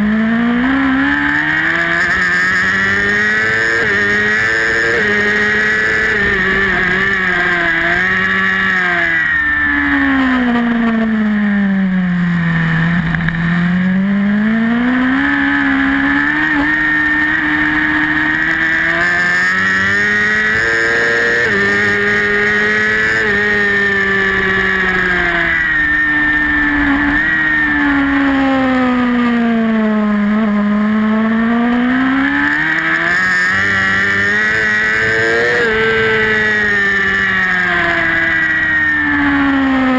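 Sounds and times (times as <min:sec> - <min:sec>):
racing motorcycle engine high revs: 0:00.0 - 0:39.9.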